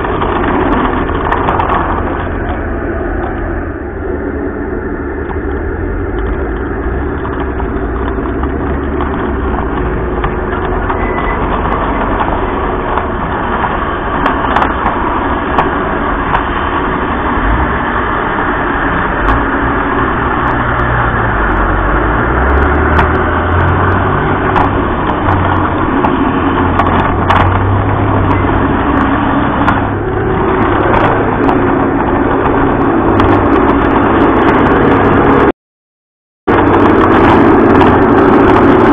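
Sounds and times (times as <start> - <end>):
model train rumbling on track: 0.0 - 35.5, 36.5 - 38.9.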